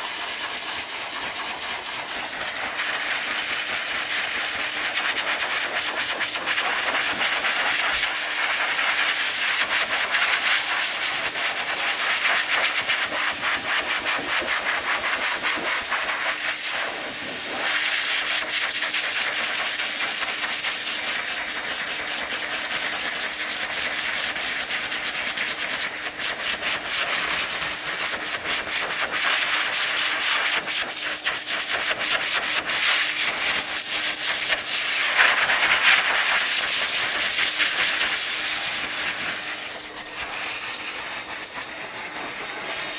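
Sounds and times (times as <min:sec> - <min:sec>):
dog dryer blowing air: 0:00.0 - 0:42.9.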